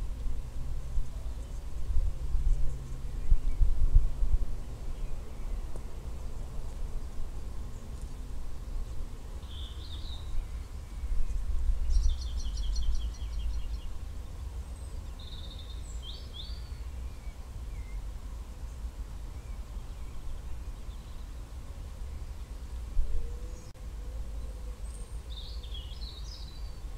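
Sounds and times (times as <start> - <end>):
songbirds calling: 0.0 - 26.9
wind rumbling on microphone: 0.0 - 26.9.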